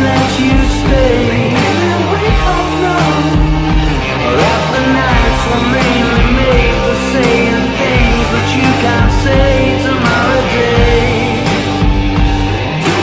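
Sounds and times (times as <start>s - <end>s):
bass line: 0.0s - 13.0s
drums on a regular beat: 0.0s - 13.0s
rock music: 0.0s - 13.0s
wordless gliding singing: 0.0s - 13.0s.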